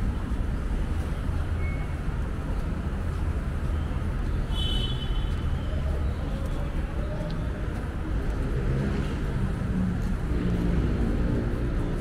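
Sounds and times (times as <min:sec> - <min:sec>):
passing vehicle engines: 0:00.0 - 0:12.0
road traffic rumble: 0:00.0 - 0:12.0.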